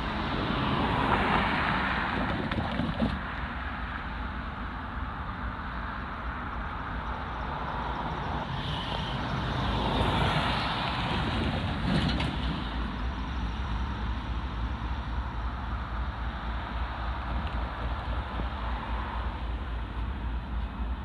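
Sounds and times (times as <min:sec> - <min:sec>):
cars passing: 0:00.0 - 0:21.0.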